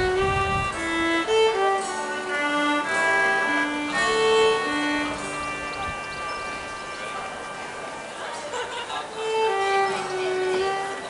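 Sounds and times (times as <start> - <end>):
concertina: 0.0 - 11.0
fiddle melody: 0.0 - 11.0.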